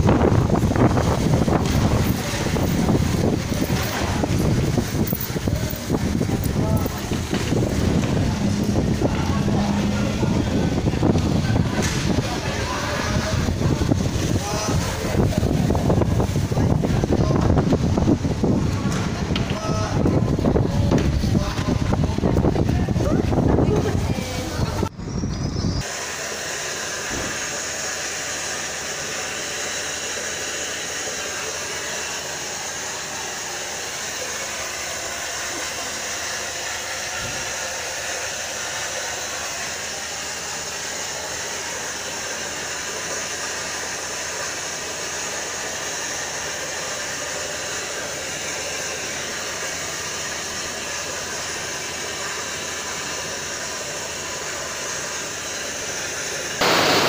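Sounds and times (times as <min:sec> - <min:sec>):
steam hissing: 0:00.0 - 0:57.0.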